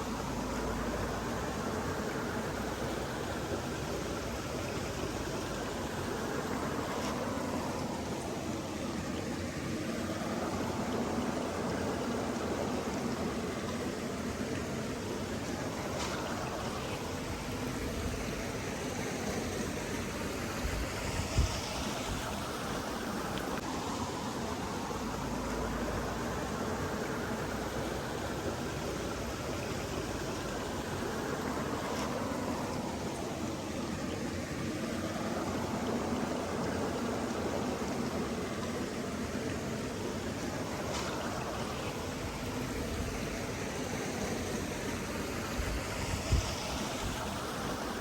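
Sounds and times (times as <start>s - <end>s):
running water rushing: 0.0s - 48.0s.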